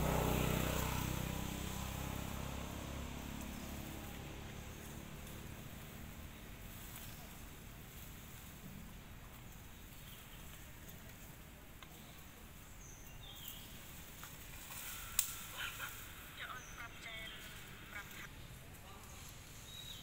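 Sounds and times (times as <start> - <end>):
steady low rumble: 0.0 - 12.8, 13.4 - 19.8.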